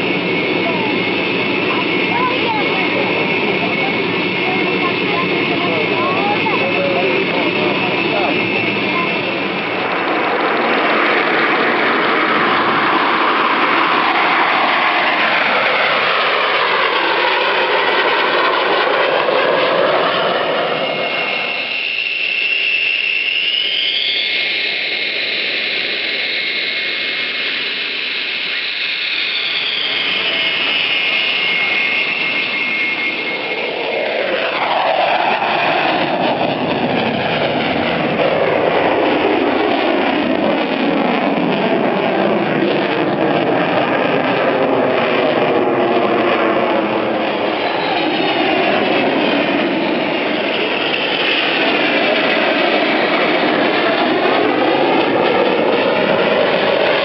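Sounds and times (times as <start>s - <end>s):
jet engine high whine: 0.0s - 57.0s
jet roaring past: 0.0s - 57.0s.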